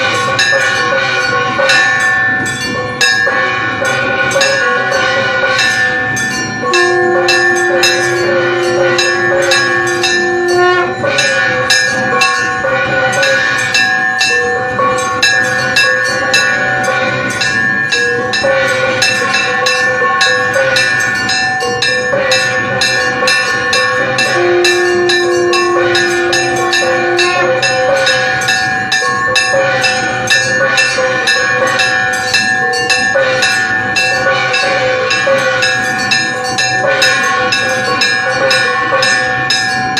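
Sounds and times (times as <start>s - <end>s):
horn-like wind instrument: 0.0s - 2.0s, 3.2s - 6.0s, 6.6s - 17.6s, 18.2s - 32.2s, 33.0s - 39.3s
bells and percussion ringing: 0.0s - 39.9s.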